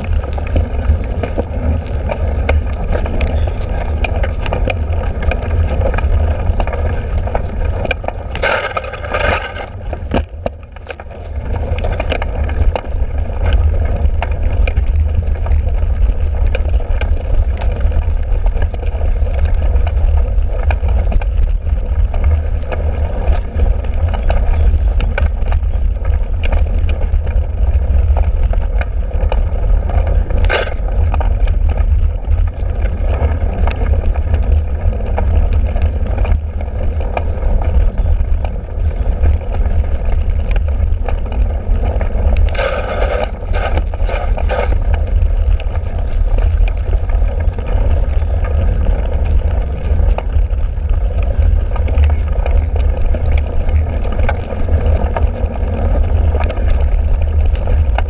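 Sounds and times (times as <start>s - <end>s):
bike knocks and rattles: 0.0s - 58.0s
wind buffeting microphone: 0.0s - 58.0s.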